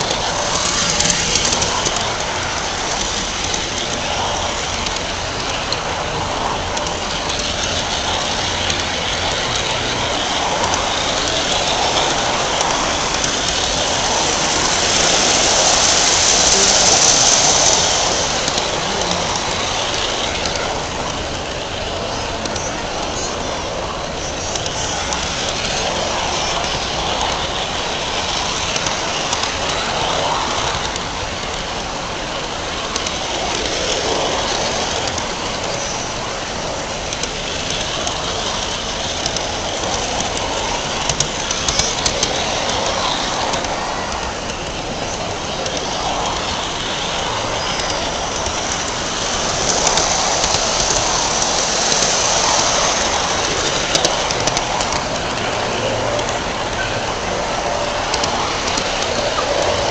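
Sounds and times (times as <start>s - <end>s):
model train wheels rattling: 0.0s - 59.9s
sharp ticks: 0.0s - 59.9s.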